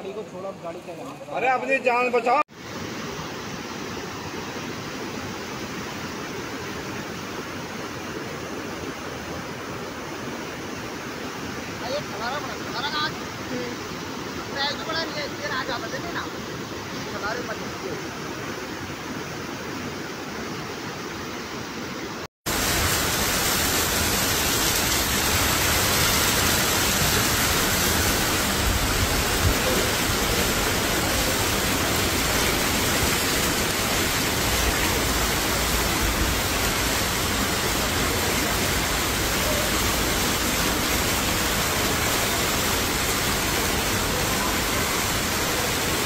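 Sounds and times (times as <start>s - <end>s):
floodwater rushing: 0.0s - 46.0s
torrential rain downpour: 2.4s - 21.2s, 22.0s - 46.0s.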